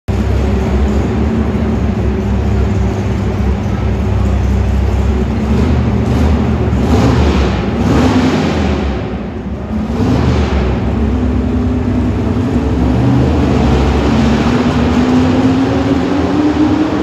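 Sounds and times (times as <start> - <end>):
loud truck engine running: 0.1 - 17.0.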